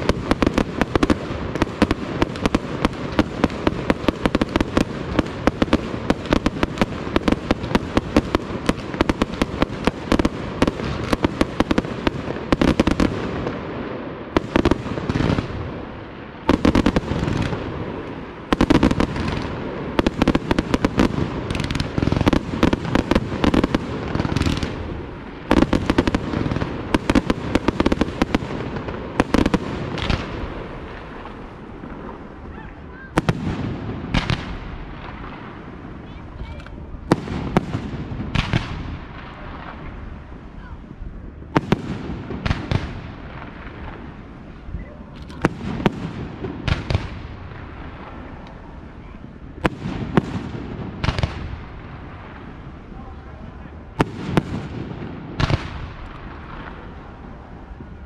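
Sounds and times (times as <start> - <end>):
heavy firework bangs: 0.0 - 40.4, 41.2 - 44.4, 45.3 - 48.4, 49.5 - 52.9, 53.8 - 58.0
fireworks bursts and crackling: 0.0 - 58.0.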